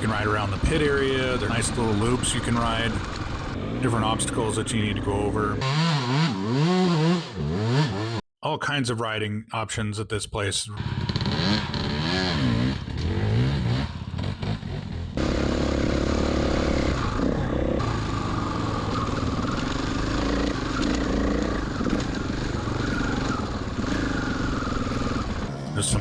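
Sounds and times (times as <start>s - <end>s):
dirt bike engine revving: 0.0s - 8.2s, 10.8s - 26.0s.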